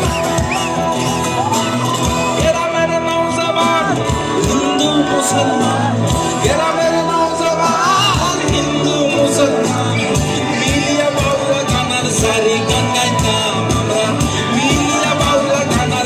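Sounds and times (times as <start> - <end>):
drum beat: 0.0 - 16.0
electric guitars: 0.0 - 16.0
voices singing and shouting: 0.0 - 16.0.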